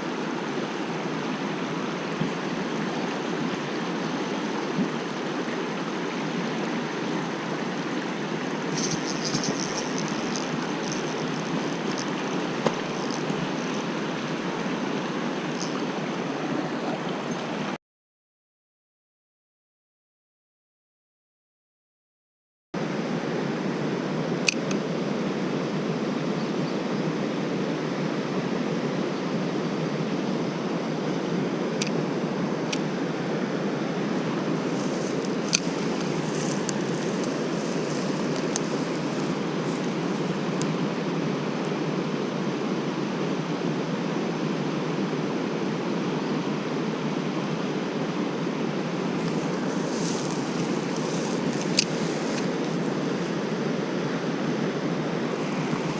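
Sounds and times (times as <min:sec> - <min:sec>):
stream water rushing: 0:00.0 - 0:17.8, 0:27.1 - 0:55.9.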